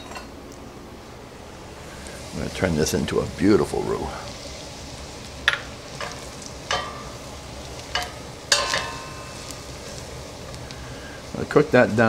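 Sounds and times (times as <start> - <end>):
low sizzle in a saucepan: 0.0 - 12.0.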